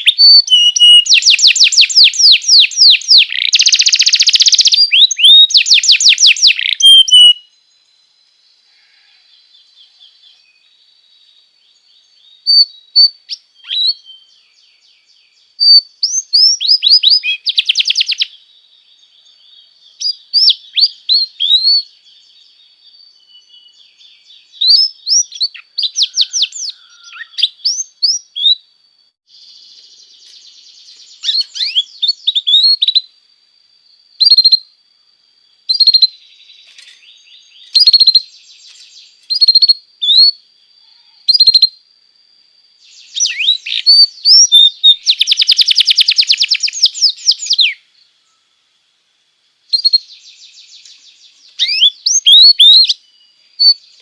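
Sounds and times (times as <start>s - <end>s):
canary singing trills: 0.0s - 7.9s, 8.8s - 28.7s, 29.3s - 33.2s, 34.0s - 34.8s, 35.6s - 41.8s, 42.8s - 48.4s, 49.7s - 54.0s.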